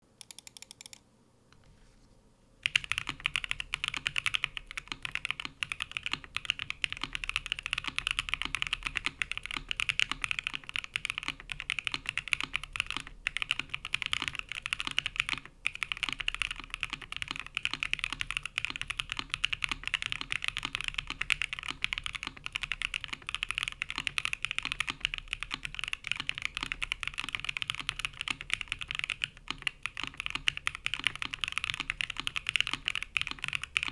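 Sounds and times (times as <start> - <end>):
fast mechanical keyboard typing: 0.2 - 1.0, 2.6 - 33.9.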